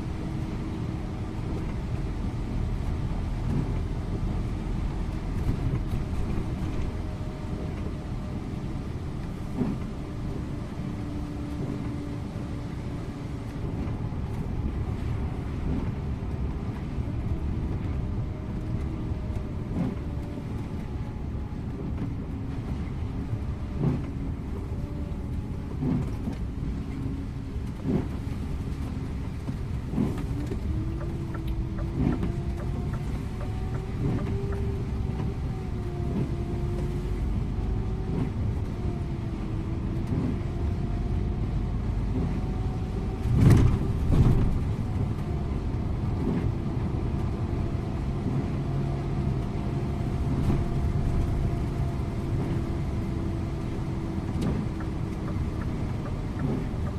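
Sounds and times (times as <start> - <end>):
bus engine hum: 0.0 - 56.9.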